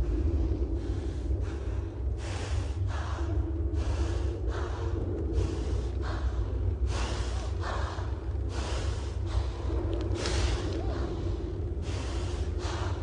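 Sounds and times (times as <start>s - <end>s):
heavy rhythmic breathing: 0.0s - 13.0s
steady low drone: 0.0s - 13.0s.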